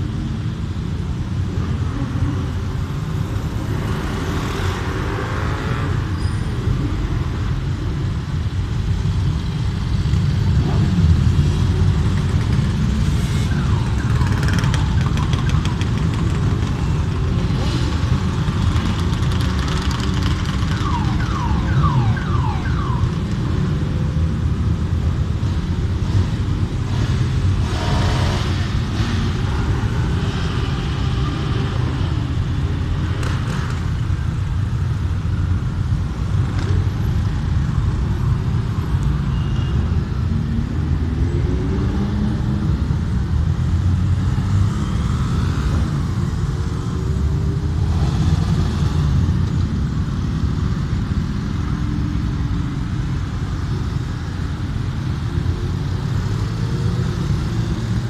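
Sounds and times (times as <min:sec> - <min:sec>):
motorcycle revving and accelerating: 0:01.5 - 0:07.7, 0:09.5 - 0:21.0, 0:23.2 - 0:34.9, 0:40.2 - 0:58.0.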